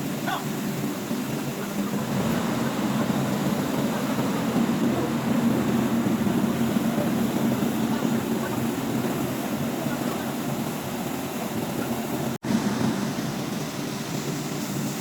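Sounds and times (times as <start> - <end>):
air conditioner blowing hum: 1.7 - 14.8.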